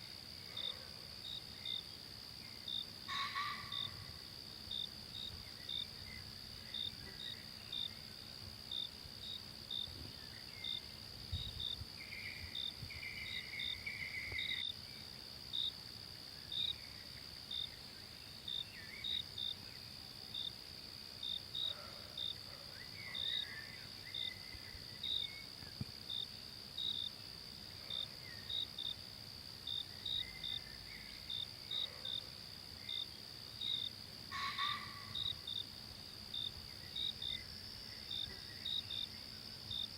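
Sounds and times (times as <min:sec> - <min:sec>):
cricket-like chirps: 0:00.0 - 0:39.9
high insect drone: 0:00.0 - 0:39.9.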